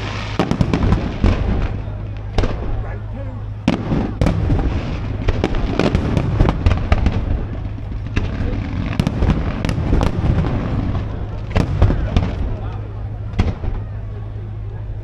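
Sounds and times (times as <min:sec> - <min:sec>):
fireworks bangs and crackles: 0:00.0 - 0:14.7
low rumble: 0:00.0 - 0:15.0.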